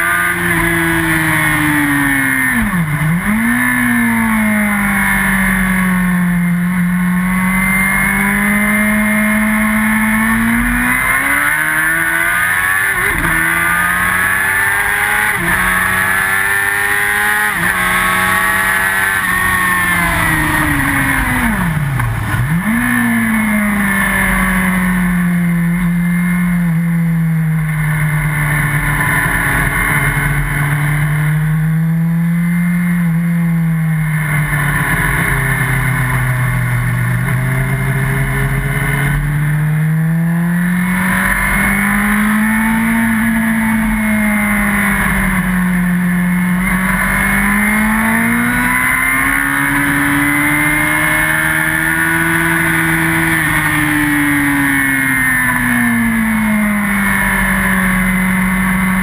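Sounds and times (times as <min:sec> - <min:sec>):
motorcycle engine at full throttle: 0:00.0 - 0:59.0.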